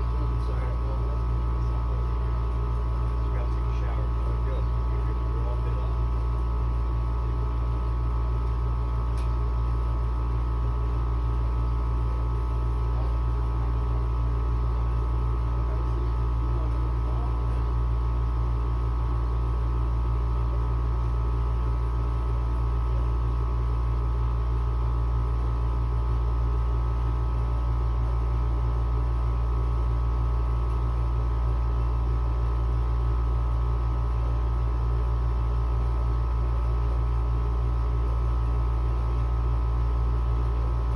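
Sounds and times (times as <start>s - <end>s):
air conditioner humming: 0.0s - 40.9s.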